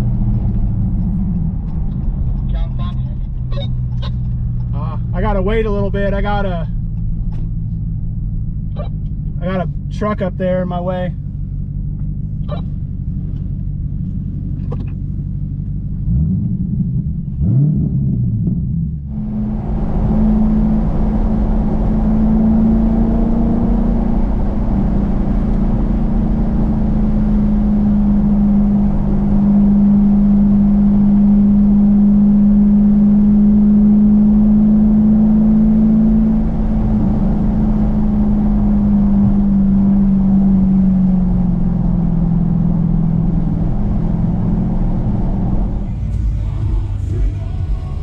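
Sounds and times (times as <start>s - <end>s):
car exhaust droning: 0.0s - 48.0s.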